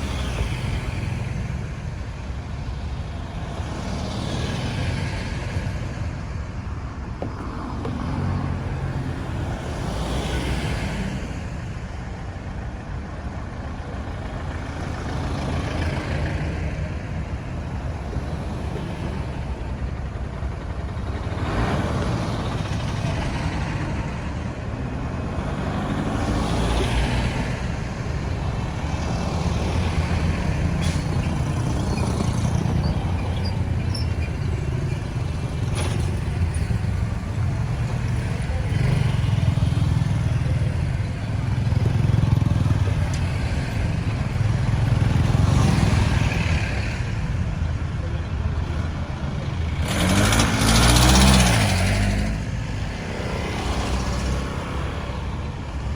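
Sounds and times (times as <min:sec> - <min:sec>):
road traffic: 0:00.0 - 0:55.9
vehicles passing by: 0:00.0 - 0:55.9.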